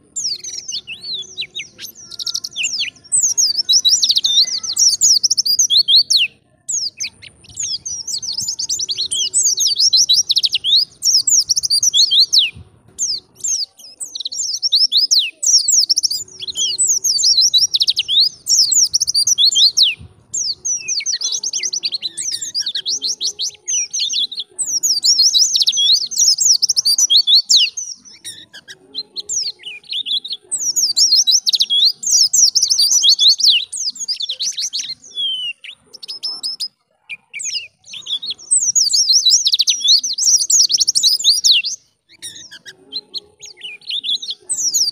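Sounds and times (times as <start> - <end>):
bird singing warbling song: 0.0 - 44.9.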